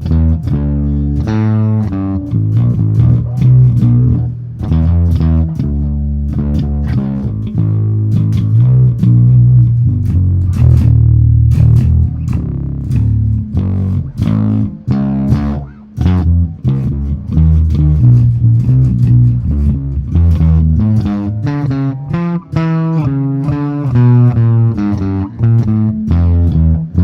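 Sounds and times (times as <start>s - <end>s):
electric bass notes plucked: 0.0s - 27.0s.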